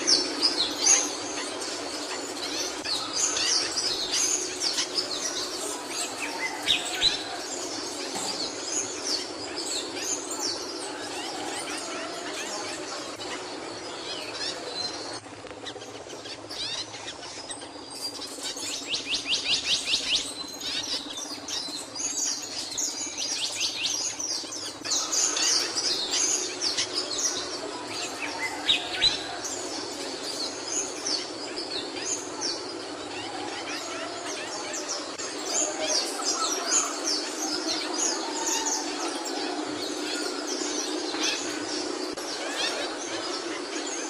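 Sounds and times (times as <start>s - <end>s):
bird chirps and twitters: 0.0s - 44.0s
bird singing high sweeping notes: 0.0s - 44.0s
steady low hum: 0.0s - 44.0s.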